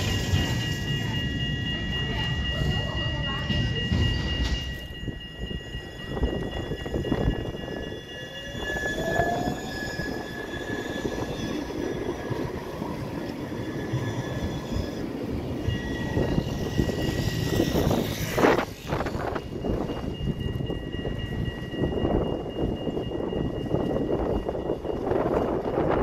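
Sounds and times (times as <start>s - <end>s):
tram motor whining: 0.0s - 26.0s
tram rumbling on rails: 0.0s - 26.0s.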